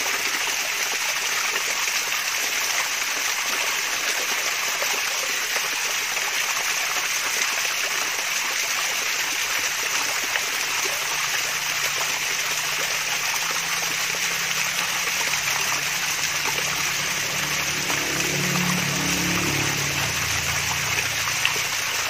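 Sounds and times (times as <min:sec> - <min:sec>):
small waterfall splashing: 0:00.0 - 0:22.0.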